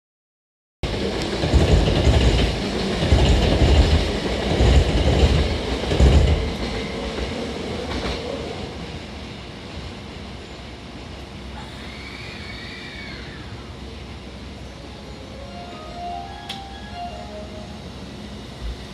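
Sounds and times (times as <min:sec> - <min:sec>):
train wheels rumbling on rail: 0:00.8 - 0:18.9.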